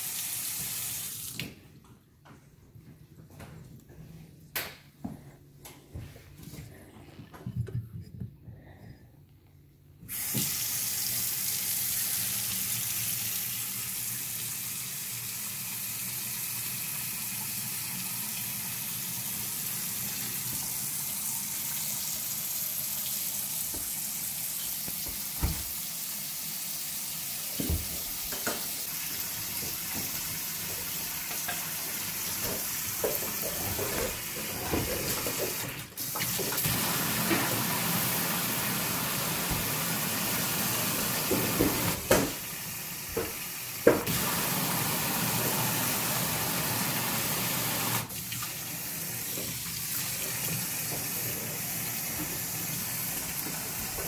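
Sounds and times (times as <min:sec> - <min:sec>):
faucet water running into sink: 0:00.0 - 0:01.5, 0:10.1 - 0:54.0.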